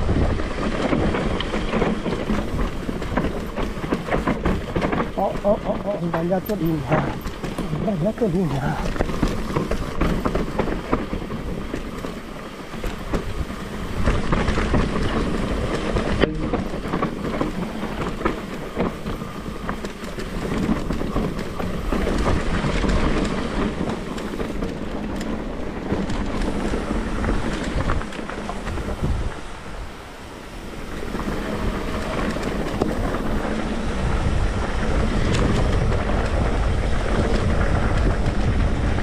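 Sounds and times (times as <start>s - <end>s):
bike rattling over bumps: 0.0s - 39.0s
bike tyres rolling over dirt: 0.0s - 39.0s.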